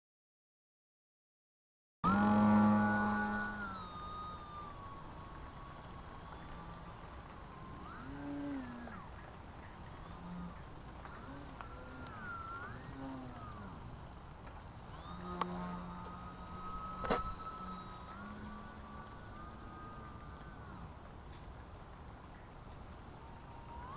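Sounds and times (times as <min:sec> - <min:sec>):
model plane motor whining: 0:02.0 - 0:21.7, 0:22.8 - 0:23.9.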